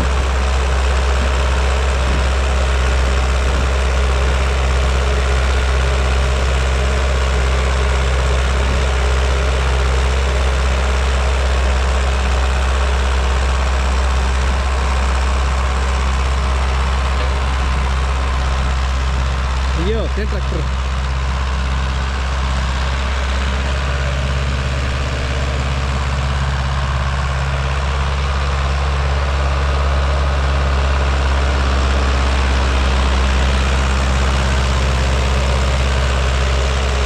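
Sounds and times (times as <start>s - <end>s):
diesel tractor engine running: 0.0s - 37.0s.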